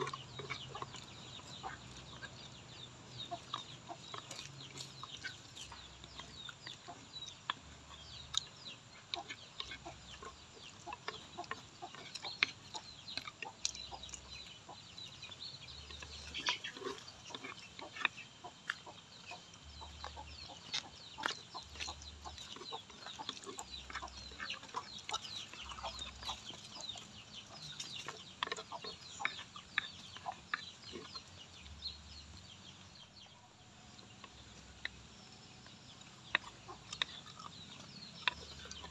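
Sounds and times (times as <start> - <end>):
chickens clucking: 0.0 - 38.9
eating noises: 0.0 - 38.9.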